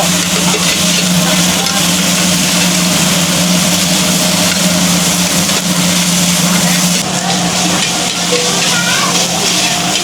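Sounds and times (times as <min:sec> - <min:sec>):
steady motor hum: 0:00.0 - 0:10.0.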